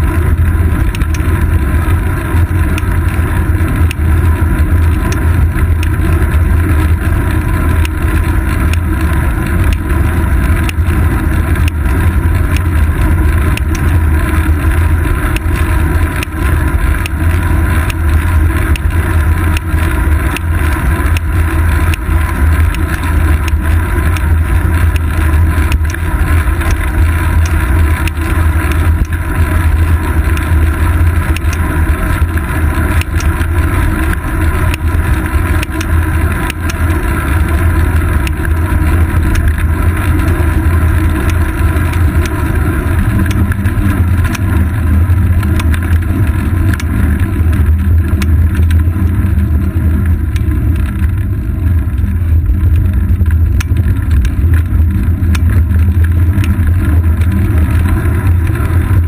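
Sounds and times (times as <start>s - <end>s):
bicycle tyres rolling on asphalt: 0.0s - 59.0s
small ticks and clicks: 0.0s - 59.0s.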